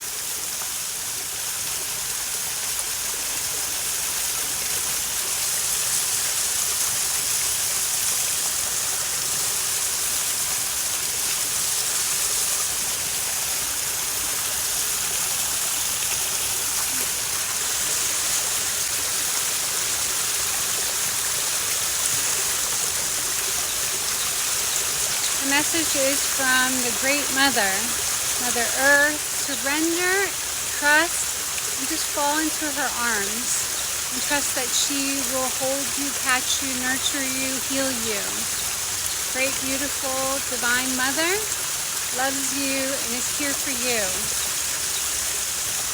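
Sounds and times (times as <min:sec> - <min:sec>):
water rushing: 0:00.0 - 0:45.9.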